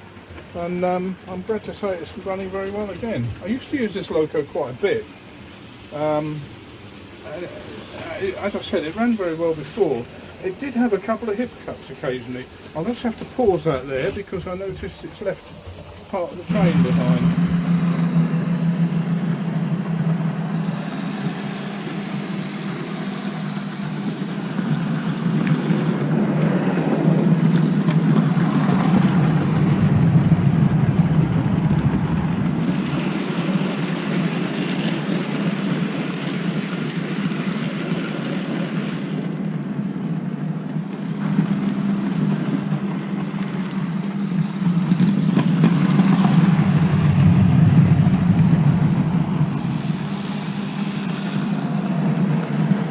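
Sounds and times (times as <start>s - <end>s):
model train motor hum: 0.0s - 52.9s
wheel and rail noise: 0.0s - 52.9s.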